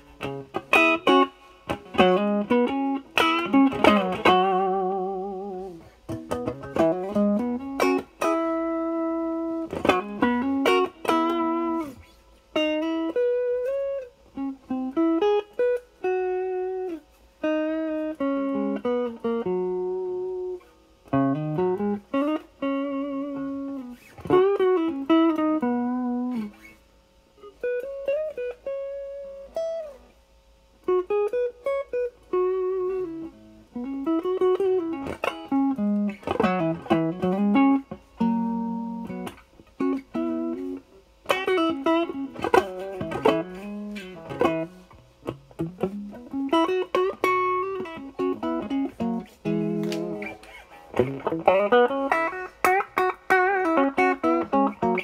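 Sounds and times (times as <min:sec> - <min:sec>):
overdriven electric guitar lead: 0:00.0 - 0:30.1, 0:30.8 - 0:55.0.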